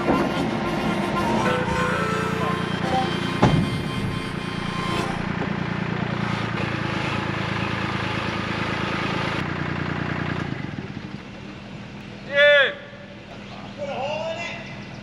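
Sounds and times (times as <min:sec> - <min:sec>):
excavator diesel engine running: 0:00.0 - 0:12.2.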